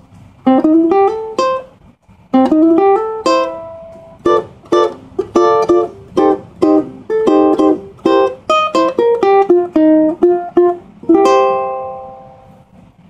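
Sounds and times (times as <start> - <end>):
ukulele blues melody: 0.0 - 13.0.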